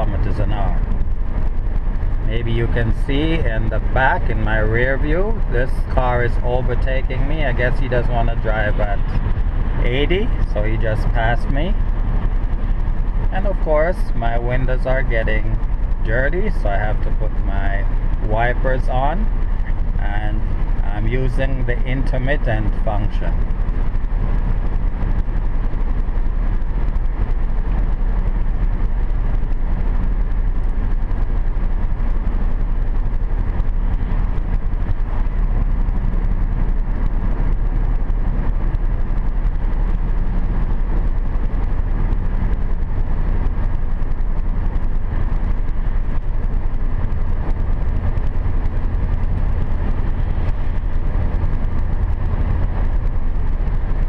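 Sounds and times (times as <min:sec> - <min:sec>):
car tyre and engine rumble: 0:00.0 - 0:54.0.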